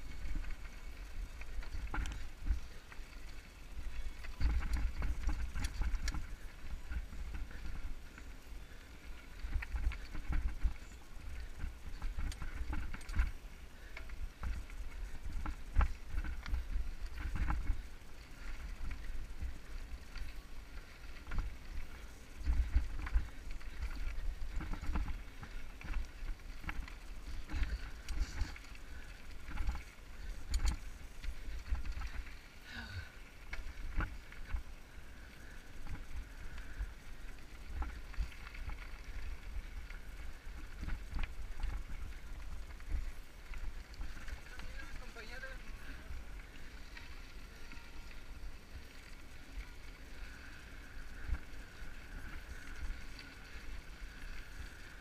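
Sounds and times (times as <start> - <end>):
bike rattling over stones: 0.0 - 55.0
wind rumbling on microphone: 0.0 - 55.0.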